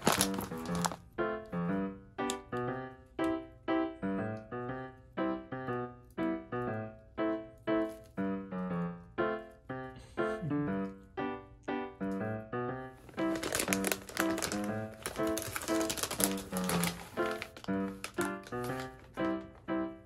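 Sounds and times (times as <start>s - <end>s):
piano single notes: 0.0s - 20.0s.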